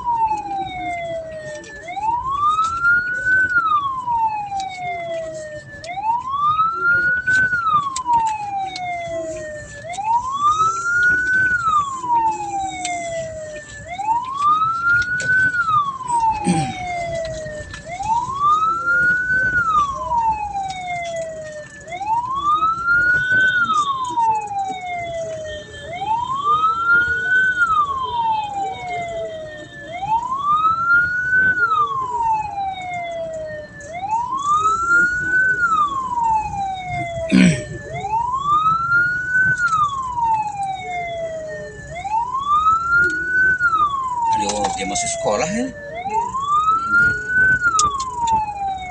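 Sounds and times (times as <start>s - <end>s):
road noise: 0.0s - 48.9s
siren wailing: 0.0s - 48.9s.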